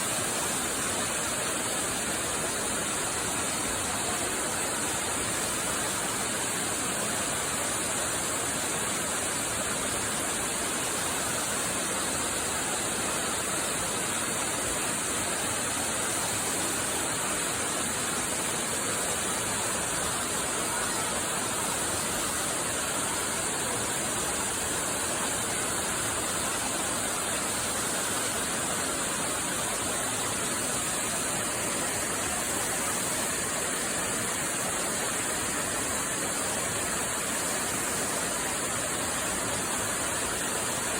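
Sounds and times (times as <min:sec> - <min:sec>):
high-pitched hiss: 0:00.0 - 0:40.9
waterfall pouring and splashing: 0:00.0 - 0:40.9.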